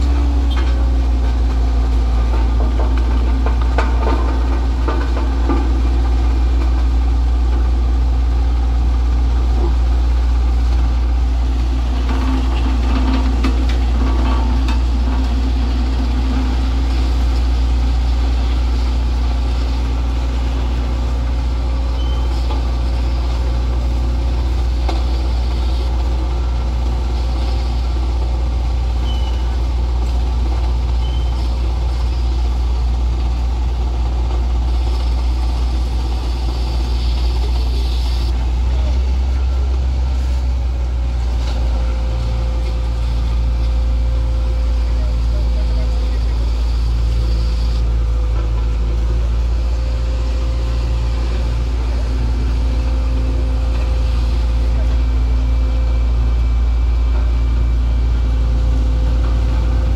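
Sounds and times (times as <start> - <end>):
road roller diesel engine running: 0.0 - 59.9.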